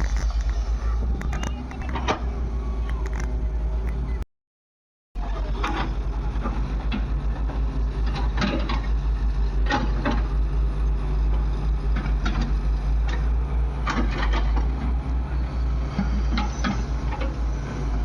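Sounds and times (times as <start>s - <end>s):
diesel engine throbbing: 0.0s - 4.2s, 5.2s - 18.0s.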